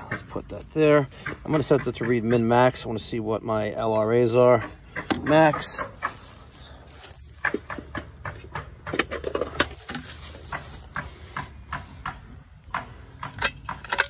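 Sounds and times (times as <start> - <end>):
clicks and taps on metal box: 0.0 - 2.6, 4.4 - 6.5, 7.2 - 14.0.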